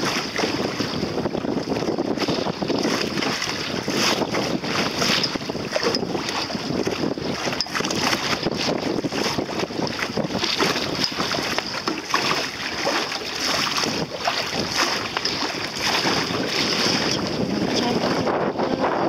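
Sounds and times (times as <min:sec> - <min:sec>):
water splashing along a boat hull: 0:00.0 - 0:19.0
wind buffeting the microphone: 0:00.0 - 0:19.0.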